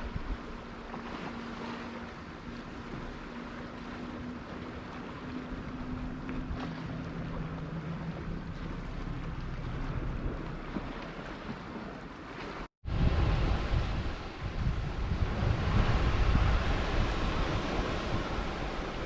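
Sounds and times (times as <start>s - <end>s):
sea waves washing ashore: 0.0s - 19.0s
wind on microphone: 0.0s - 19.0s.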